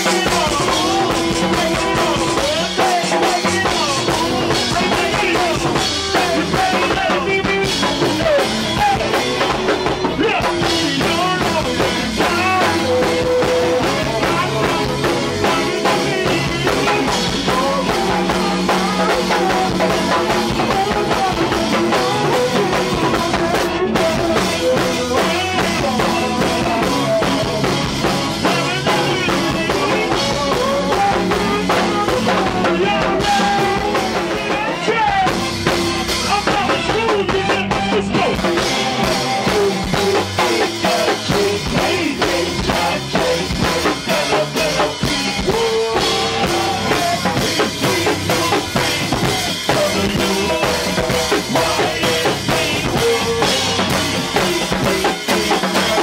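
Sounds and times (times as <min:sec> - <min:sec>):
drum-kit beat: 0:00.0 - 0:56.0
live band music: 0:00.0 - 0:56.0
person singing into a microphone: 0:00.0 - 0:56.0.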